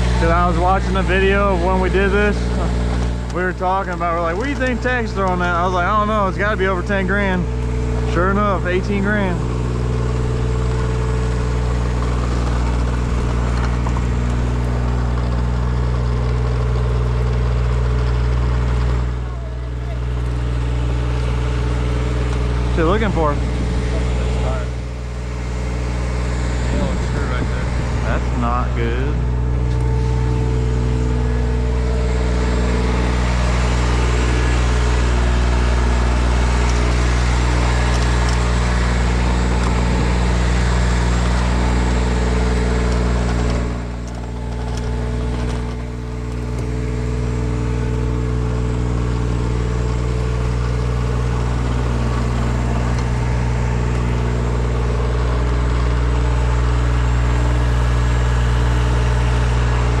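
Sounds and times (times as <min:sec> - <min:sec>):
engine running steadily: 0:00.0 - 1:00.0.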